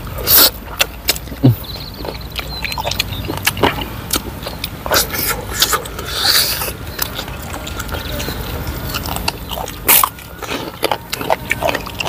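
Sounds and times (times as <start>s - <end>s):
cracker crunch: 0.0s - 12.0s
wet chewing and smacking: 0.0s - 12.0s.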